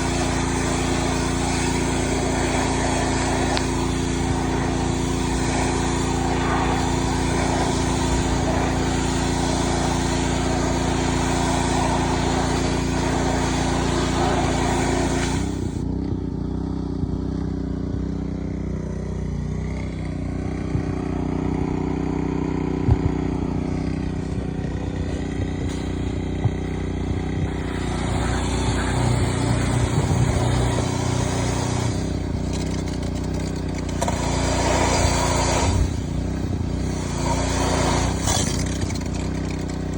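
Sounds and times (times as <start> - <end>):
water spray hissing: 0.0 - 15.8, 21.8 - 39.9
pressure washer engine running: 0.0 - 39.9.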